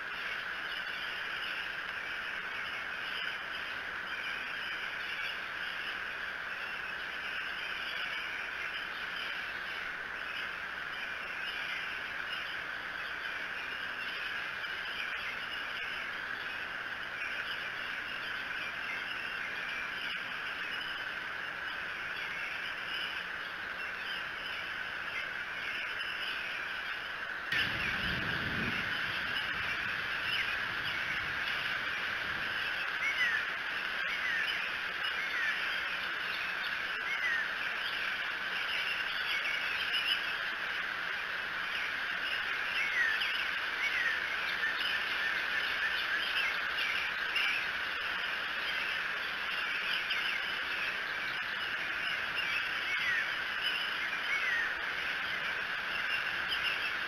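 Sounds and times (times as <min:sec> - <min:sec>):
birds chirping: 0:00.0 - 0:57.0
steady background hiss: 0:00.0 - 0:57.0.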